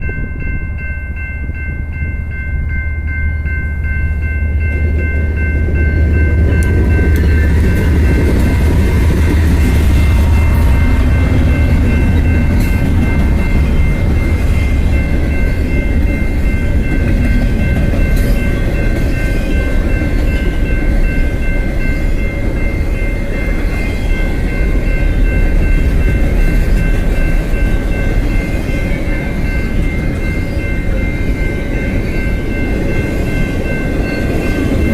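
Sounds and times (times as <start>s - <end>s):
locomotive low rumble: 0.0s - 33.8s
high-pitched ringing tone: 0.0s - 34.9s
train wheels clicking on rails: 4.5s - 34.9s.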